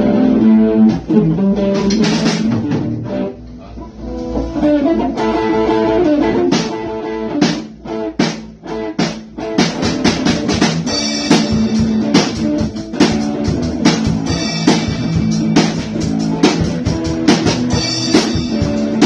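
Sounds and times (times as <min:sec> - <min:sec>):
drum kit beat: 0:00.0 - 0:19.0
strummed guitar chords: 0:00.0 - 0:19.0.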